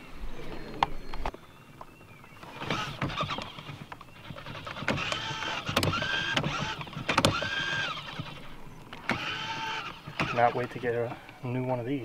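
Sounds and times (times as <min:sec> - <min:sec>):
electric trolling motor whining: 0:00.8 - 0:11.9.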